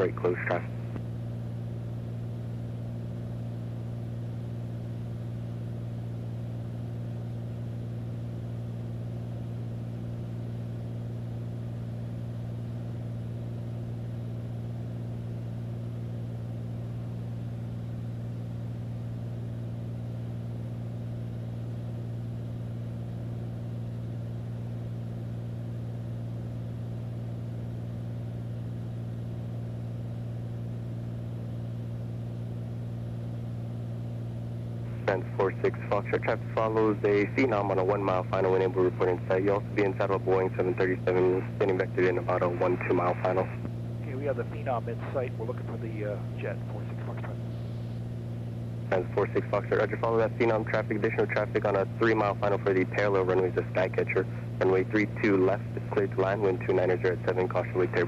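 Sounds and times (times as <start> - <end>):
airplane engine drone in cockpit: 0.0 - 58.0.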